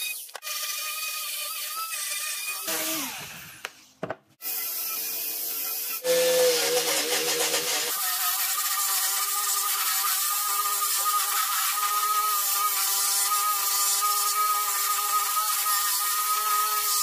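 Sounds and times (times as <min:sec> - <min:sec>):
angle grinder sanding wood: 0:00.8 - 0:03.4, 0:05.9 - 0:17.0.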